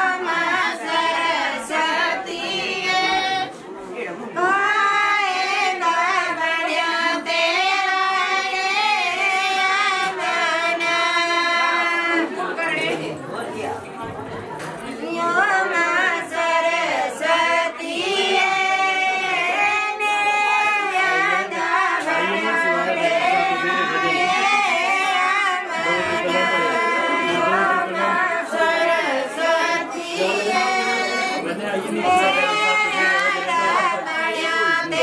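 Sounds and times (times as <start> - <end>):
women singing folk song: 0.0 - 3.6, 4.3 - 12.6, 14.8 - 35.0.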